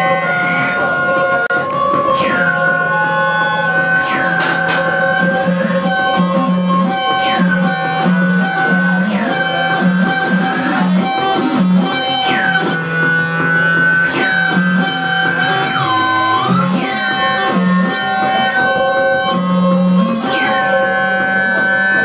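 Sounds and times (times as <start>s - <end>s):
electronic drones: 0.0s - 22.0s.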